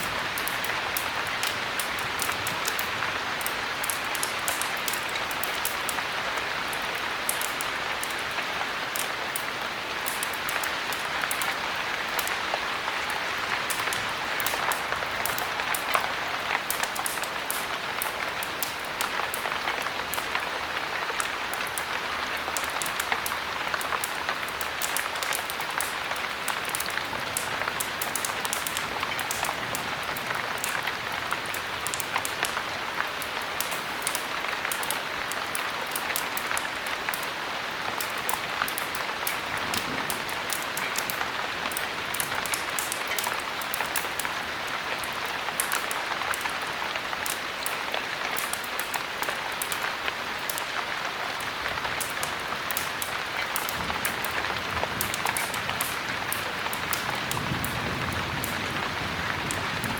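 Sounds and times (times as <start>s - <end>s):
heavy rain falling: 0.0s - 59.9s
wood fire crackling: 0.0s - 59.9s.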